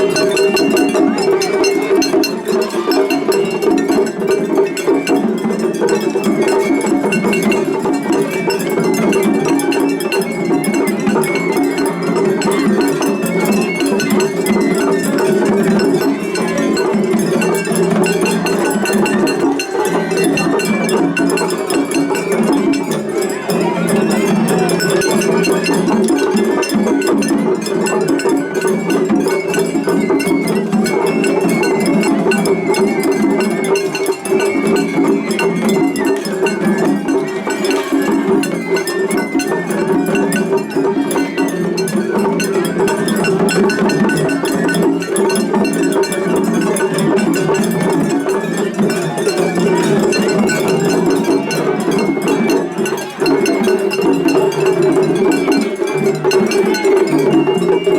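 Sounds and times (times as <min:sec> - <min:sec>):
high bamboo flute: 0:00.0 - 0:57.9
taiko drums: 0:00.0 - 0:57.9.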